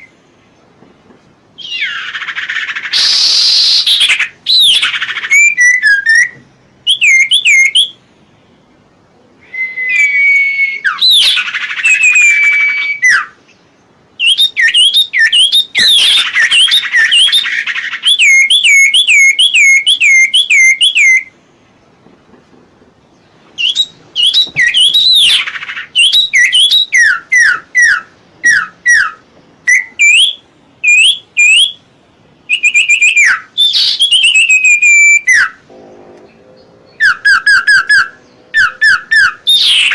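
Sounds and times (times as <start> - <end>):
bird chirping and whistling: 1.6 - 8.0, 9.4 - 13.5, 14.2 - 21.3, 23.6 - 31.8, 32.4 - 35.6, 36.9 - 39.9.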